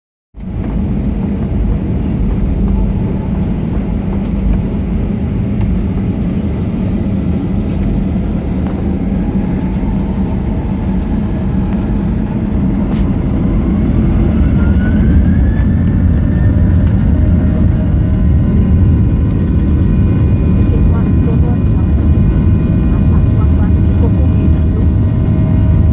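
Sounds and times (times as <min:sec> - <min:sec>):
jet engines rumbling: 0:00.4 - 0:25.9
rising engine whine: 0:00.4 - 0:25.9.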